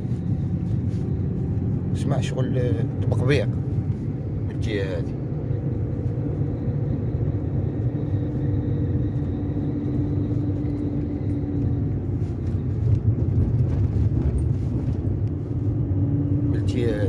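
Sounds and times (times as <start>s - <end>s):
road and tyre rumble: 0.0s - 17.0s.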